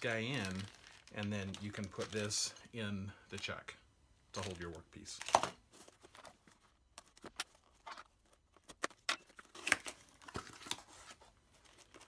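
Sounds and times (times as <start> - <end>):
plastic or paper rustling: 0.0 - 2.6, 4.4 - 12.0.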